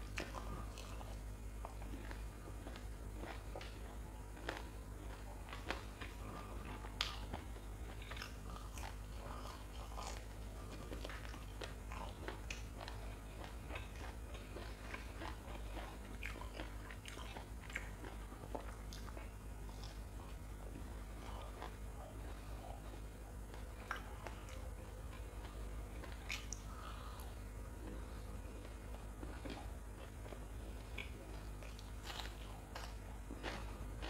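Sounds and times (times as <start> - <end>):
chewing crunchy fried food: 0.0 - 34.0
low hum: 0.0 - 34.0.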